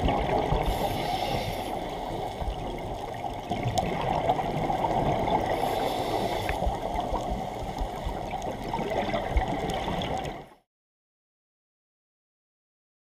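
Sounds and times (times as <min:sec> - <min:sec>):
underwater bubbles gurgling: 0:00.0 - 0:10.6.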